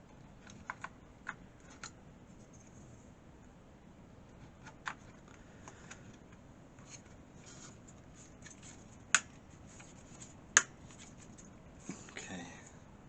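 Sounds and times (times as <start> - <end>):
handling computer parts: 0.1 - 2.8, 4.3 - 12.2.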